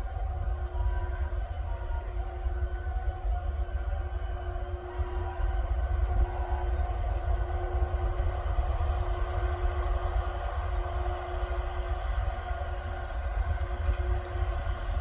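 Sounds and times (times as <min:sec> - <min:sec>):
electric locomotive hum: 0:00.0 - 0:15.0
train low rumble: 0:00.0 - 0:15.0.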